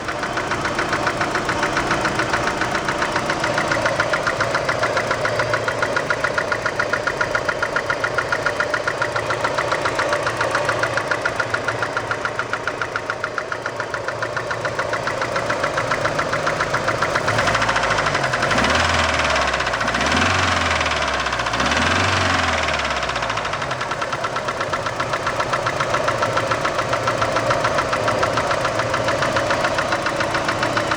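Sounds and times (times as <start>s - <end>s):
engine running with rhythmic knock: 0.0s - 30.9s.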